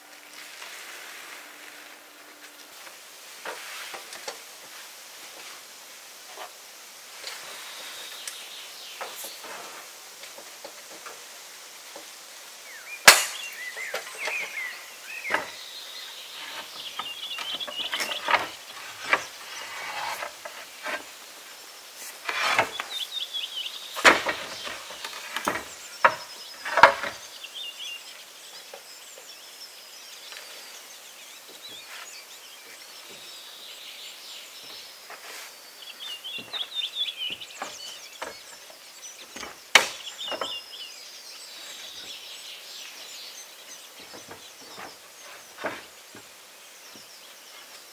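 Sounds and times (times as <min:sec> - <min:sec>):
birds chirping: 0:07.2 - 0:47.9.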